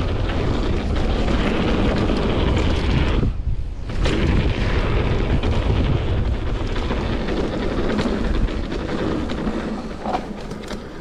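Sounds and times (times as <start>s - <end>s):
bike clicks and rattles: 0.0s - 11.0s
tyres rolling on gravel: 0.0s - 11.0s
wind rumble on microphone: 0.0s - 11.0s.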